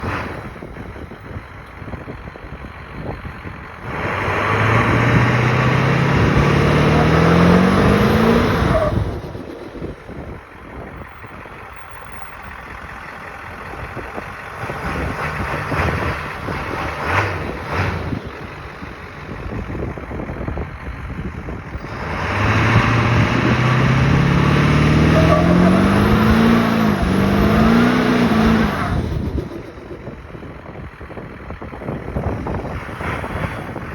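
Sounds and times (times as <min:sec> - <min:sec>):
diesel engine pulling hard: 0:00.0 - 0:33.9.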